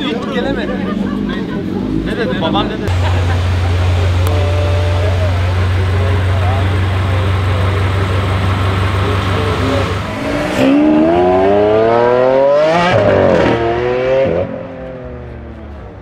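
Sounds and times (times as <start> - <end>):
car engine idling and accelerating: 0.0 - 16.0.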